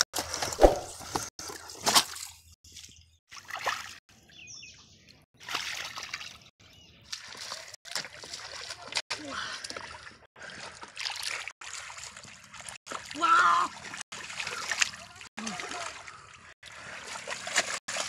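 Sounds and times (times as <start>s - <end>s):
muddy water splashing: 0.2s - 4.0s, 5.4s - 18.0s.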